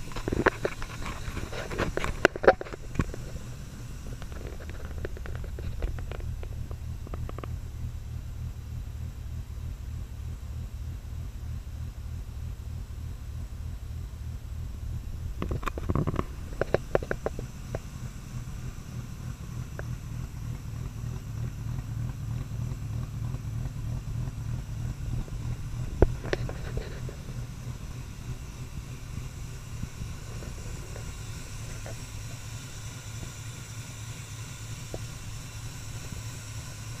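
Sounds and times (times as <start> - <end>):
car engine idling: 0.0 - 37.0
engine knocks and clicks: 0.0 - 37.0.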